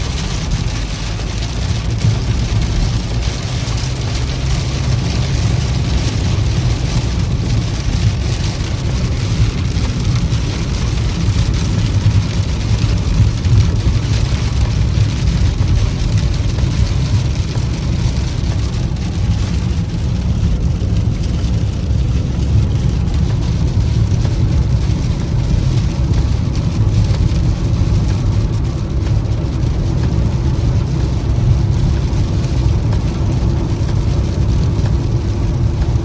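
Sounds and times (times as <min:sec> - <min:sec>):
heavy rain on a car: 0:00.0 - 0:36.0
road and engine rumble: 0:00.0 - 0:36.0.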